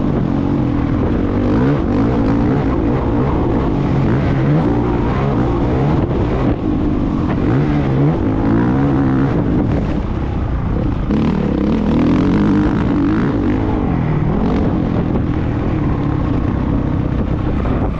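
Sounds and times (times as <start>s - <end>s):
motocross bike engine revving: 0.0s - 10.0s, 11.0s - 17.9s.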